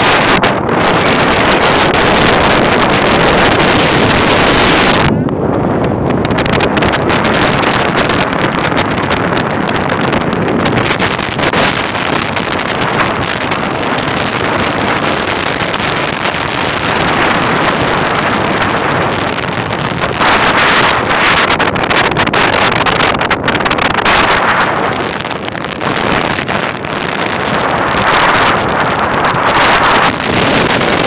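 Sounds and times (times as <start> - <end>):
strong wind buffeting microphone: 0.0 - 31.0.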